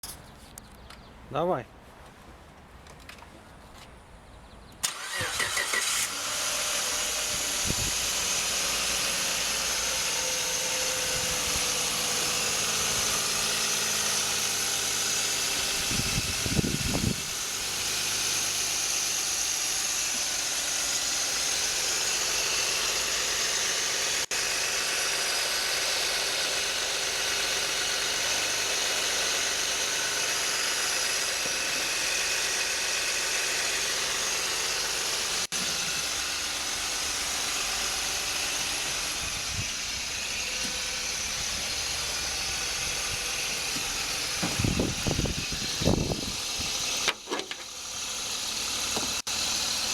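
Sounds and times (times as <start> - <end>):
car engine starting and idling: 4.7 - 49.9.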